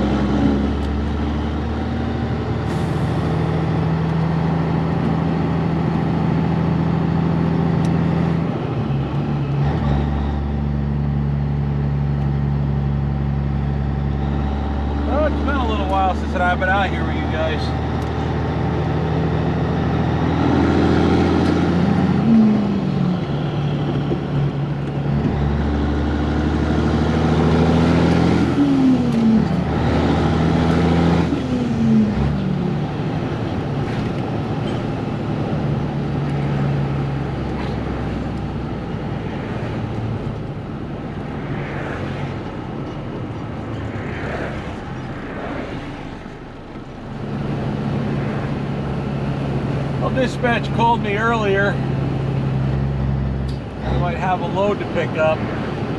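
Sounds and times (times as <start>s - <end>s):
truck diesel engine shifting gears: 0.0s - 55.9s.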